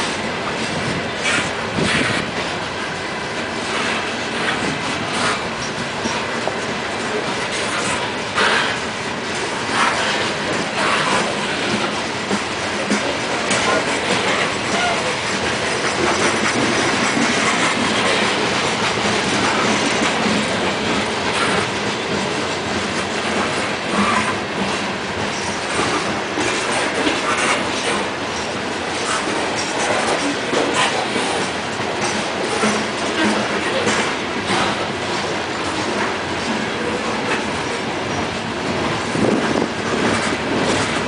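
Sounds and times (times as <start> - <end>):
wheels clicking over rail joints: 0.0 - 41.0.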